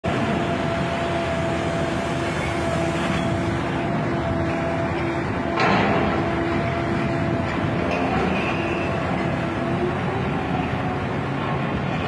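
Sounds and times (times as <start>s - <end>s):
excavator engine and hydraulic hum: 0.0s - 12.0s
machinery noise: 0.0s - 12.0s.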